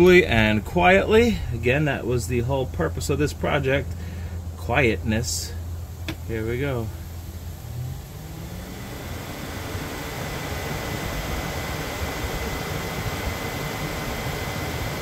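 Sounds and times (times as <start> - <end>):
electric cooling fan running: 0.0 - 15.0
faint high whine: 0.0 - 15.0.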